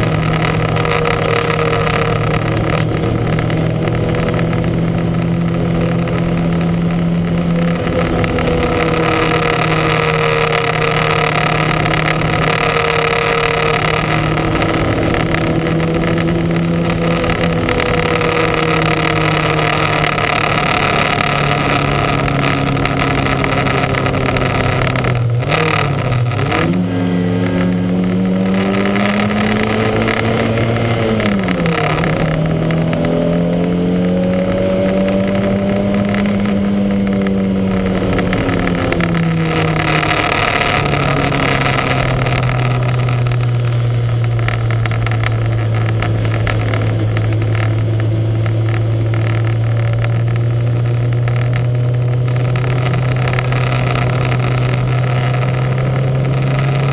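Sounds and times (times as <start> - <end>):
car engine revving hard: 0.0 - 56.9.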